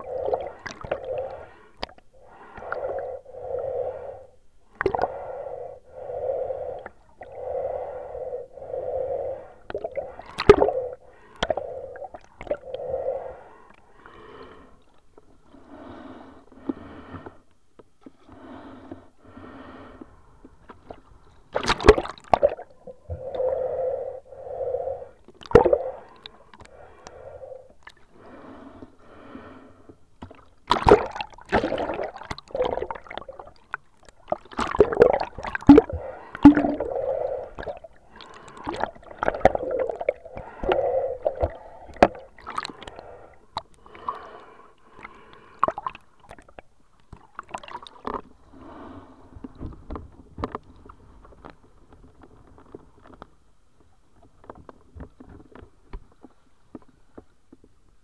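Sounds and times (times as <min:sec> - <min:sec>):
muffled underwater sloshing and bubbling: 0:00.0 - 0:57.9.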